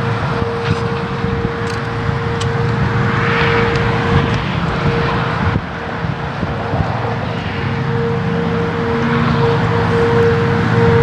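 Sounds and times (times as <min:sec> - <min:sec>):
low rumble: 0:00.0 - 0:11.0
siren steady tone: 0:00.0 - 0:11.0.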